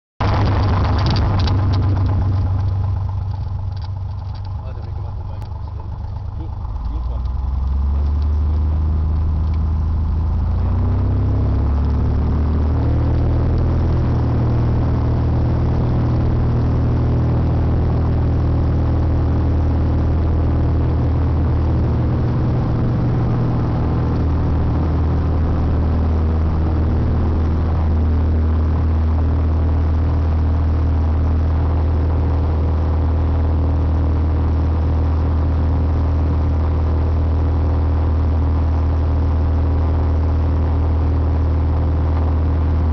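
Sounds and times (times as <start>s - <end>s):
plane engine and propeller roaring: 0.2s - 42.9s.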